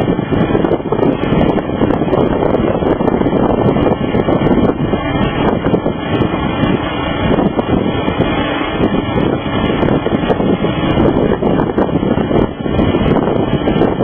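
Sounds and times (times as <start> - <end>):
distant jet engines roaring: 0.0 - 14.0
wind buffeting microphone: 0.0 - 14.0.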